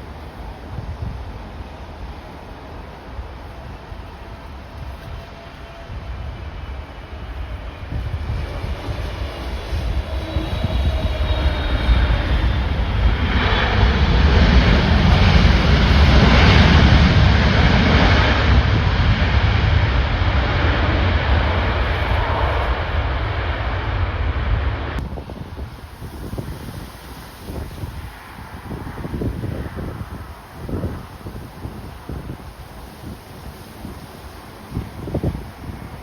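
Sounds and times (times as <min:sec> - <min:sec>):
jet airliner engines: 0:00.0 - 0:36.0
wind buffeting microphone: 0:00.0 - 0:36.0.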